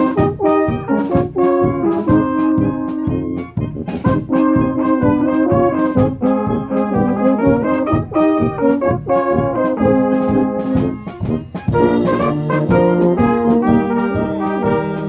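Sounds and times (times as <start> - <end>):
brass band playing: 0.0 - 15.0
drum kit with cymbals: 0.0 - 15.0
low brass holding notes: 0.0 - 15.0.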